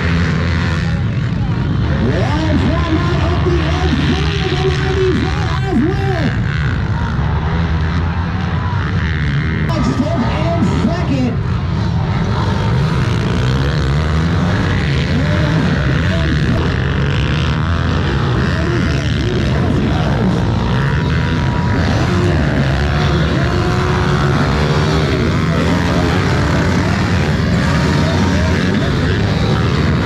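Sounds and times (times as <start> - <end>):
pit bike engines revving: 0.0 - 30.0.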